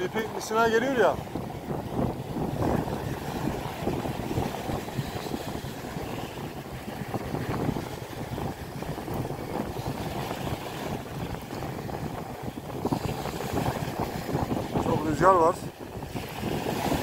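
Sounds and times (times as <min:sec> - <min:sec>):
small waves breaking on shore: 0:00.0 - 0:17.0
wind buffeting microphone: 0:00.0 - 0:17.0.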